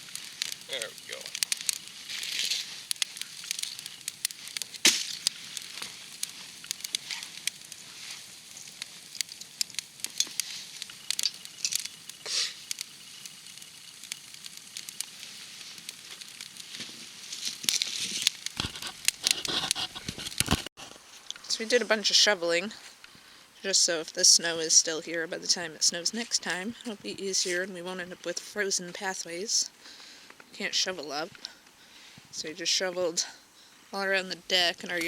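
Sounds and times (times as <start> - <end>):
campfire crackling and popping: 0.0 - 35.0
faint hiss: 0.0 - 35.0.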